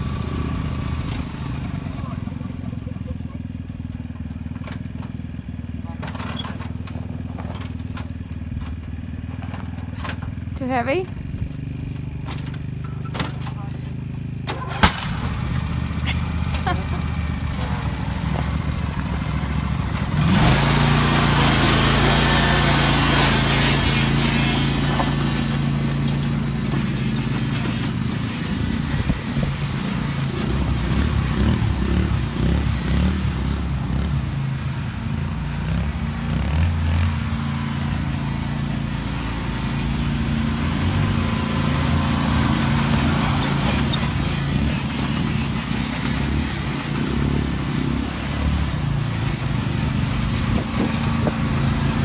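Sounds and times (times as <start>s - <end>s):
lawn tractor engine: 0.0s - 52.0s
quad engine running: 0.0s - 52.0s.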